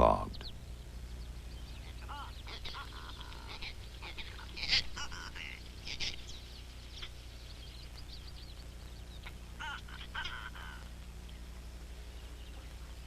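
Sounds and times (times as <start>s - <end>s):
birds chirping and chattering: 0.0s - 13.0s
low steady hum: 0.0s - 13.0s.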